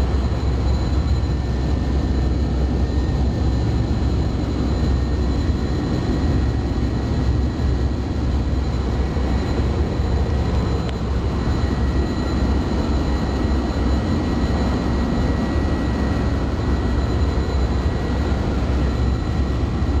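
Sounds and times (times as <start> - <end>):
airplane cabin engine rush: 0.0 - 20.0
faint high-pitched whines: 0.0 - 20.0.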